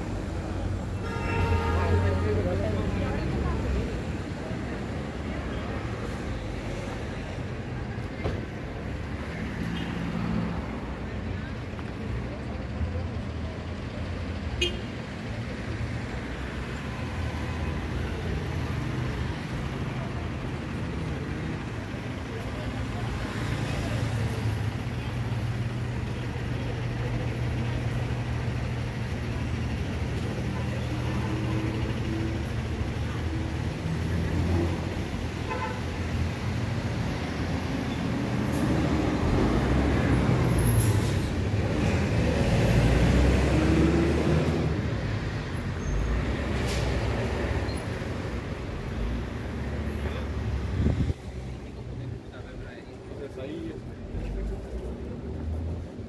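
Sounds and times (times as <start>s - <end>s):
traffic engine rumble: 0.0s - 56.0s.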